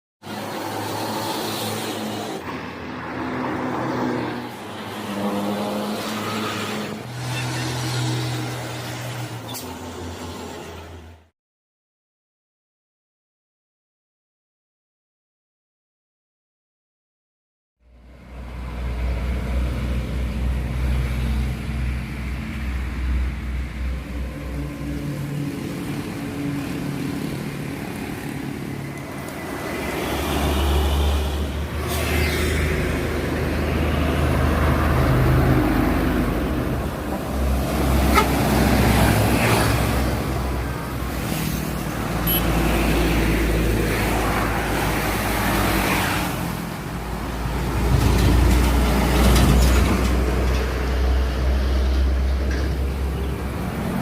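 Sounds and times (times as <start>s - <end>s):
heavy trucks passing: 0.2s - 11.3s, 17.9s - 54.0s
highway traffic: 0.2s - 11.3s, 17.8s - 54.0s.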